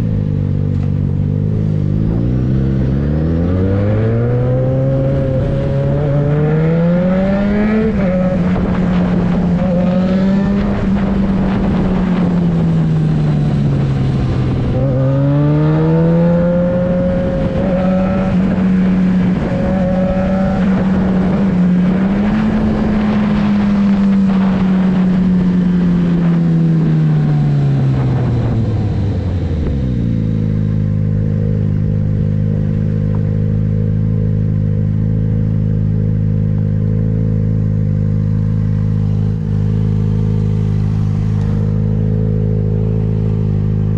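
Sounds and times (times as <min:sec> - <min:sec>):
motorcycle engine revving and idling: 0:00.0 - 0:43.9.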